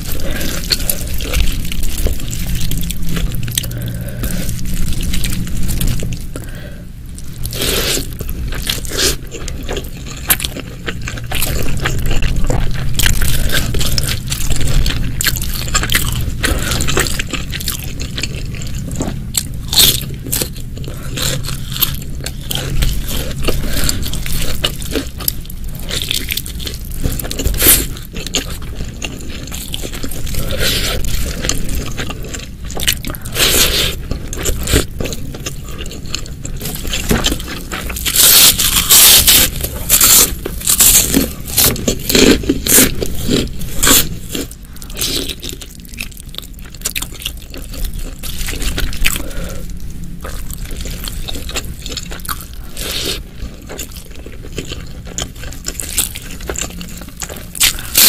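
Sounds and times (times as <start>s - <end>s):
crunching and chewing: 0.0s - 58.0s.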